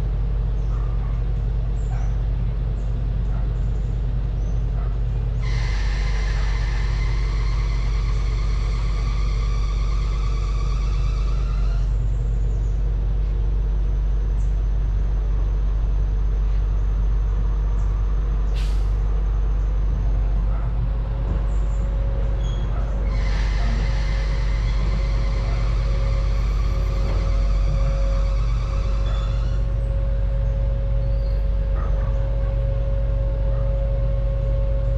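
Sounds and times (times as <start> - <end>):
locomotives idling drone: 0.0 - 34.9.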